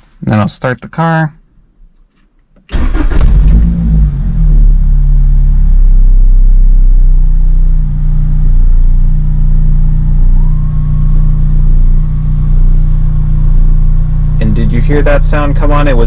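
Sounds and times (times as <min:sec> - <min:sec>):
car engine idling: 0:02.8 - 0:16.0.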